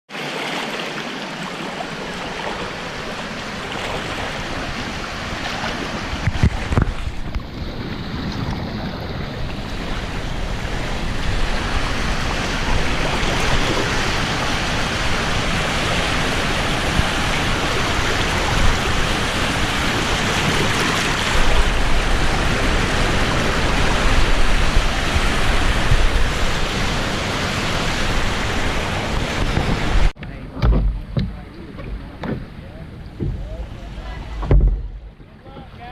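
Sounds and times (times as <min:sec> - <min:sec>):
river water rushing over rapids: 0:00.1 - 0:30.2
wind buffeting microphone: 0:02.0 - 0:35.9.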